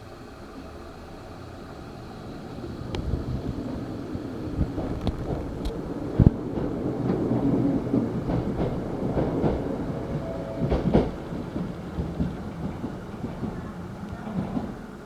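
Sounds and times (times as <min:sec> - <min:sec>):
train rumbling on rails: 0:00.0 - 0:15.0
train wheel knocks: 0:02.6 - 0:15.0.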